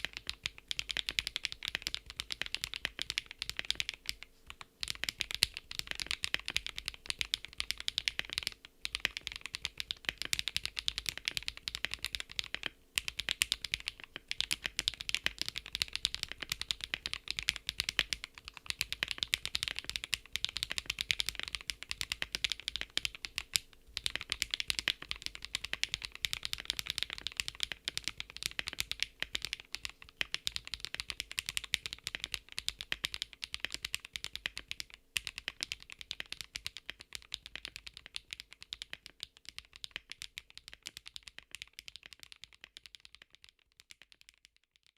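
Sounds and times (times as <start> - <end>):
mechanical keyboard typing: 0.0 - 44.6.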